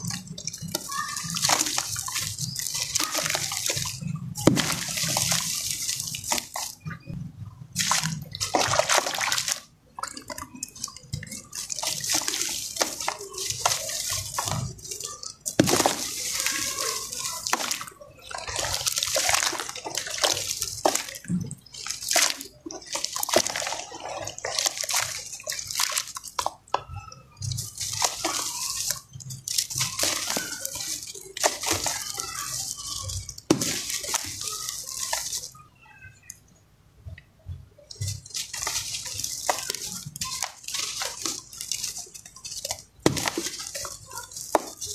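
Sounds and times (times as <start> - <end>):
grit pattering into water: 0.0 - 35.6, 37.5 - 44.9.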